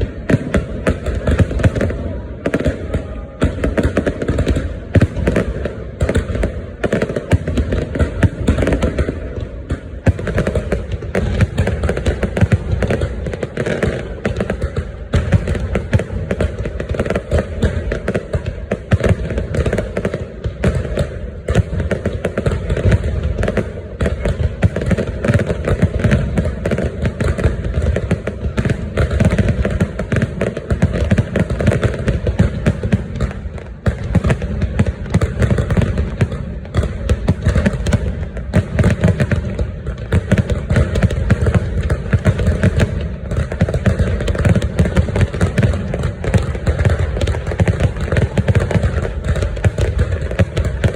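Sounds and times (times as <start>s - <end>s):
fireworks exploding: 0.0s - 50.9s.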